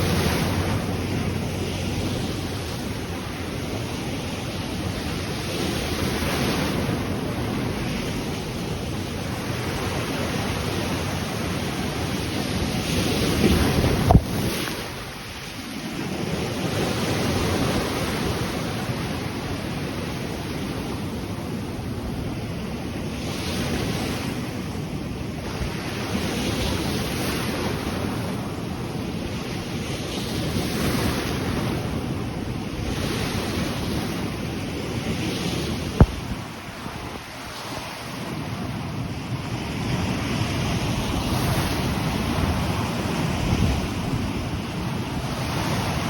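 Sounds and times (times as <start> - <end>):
ocean waves breaking on shore: 0.0 - 46.0
wind buffeting microphone: 0.0 - 46.0.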